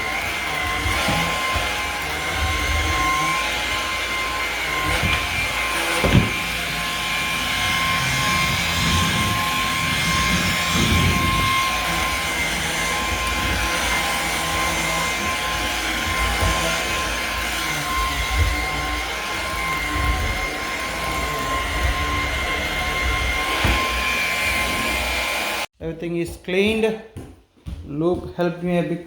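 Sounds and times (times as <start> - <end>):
vacuum cleaner motor whining: 0.0 - 25.7.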